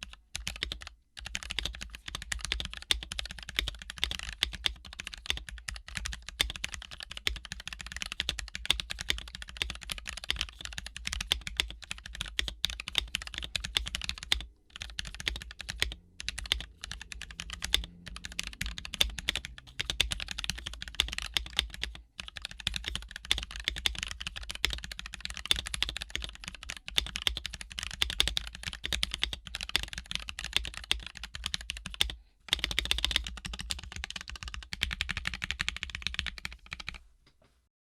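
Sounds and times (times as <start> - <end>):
mechanical keyboard typing: 0.0 - 37.0.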